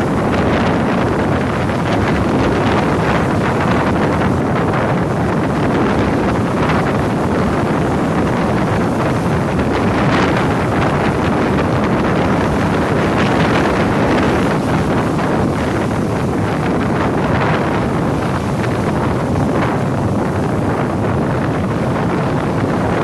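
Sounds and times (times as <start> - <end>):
surf breaking on pebble beach: 0.0 - 23.0
wind buffeting microphone: 0.0 - 23.0.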